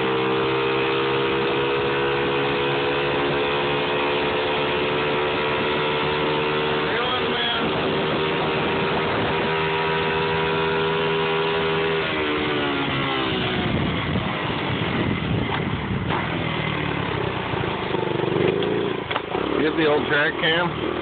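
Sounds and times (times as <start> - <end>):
road and wind noise: 0.0 - 21.0
small motorbike engine revving: 0.0 - 21.0.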